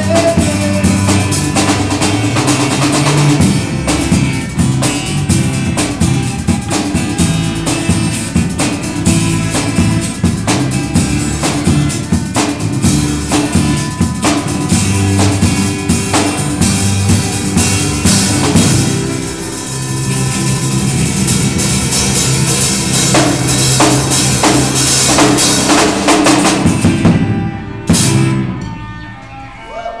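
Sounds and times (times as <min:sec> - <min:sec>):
drums: 0:00.0 - 0:30.0
live band playing: 0:00.0 - 0:30.0.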